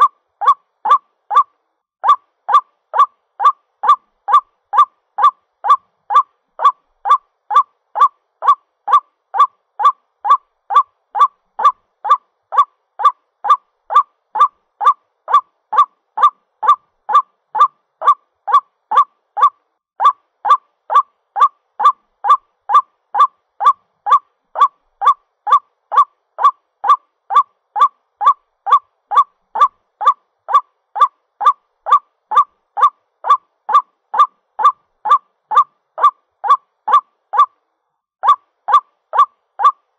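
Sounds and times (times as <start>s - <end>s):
waterhen calling: 0.0s - 37.5s, 38.2s - 39.8s.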